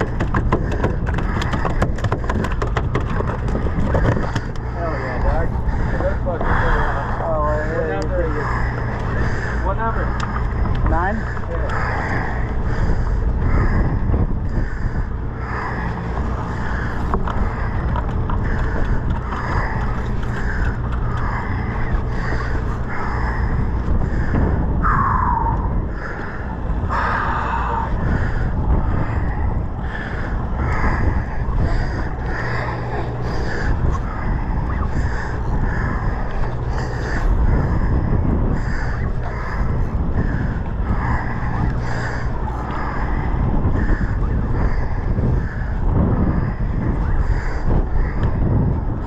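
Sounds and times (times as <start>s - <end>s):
boat engine running: 0.0s - 49.0s
water noise: 0.0s - 49.0s
wind: 0.0s - 49.0s.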